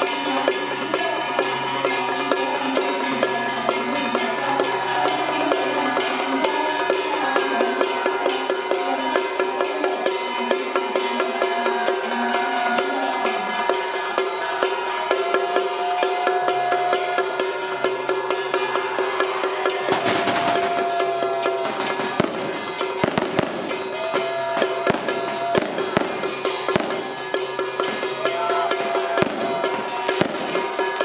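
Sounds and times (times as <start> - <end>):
drums and gongs beating: 0.0 - 31.0.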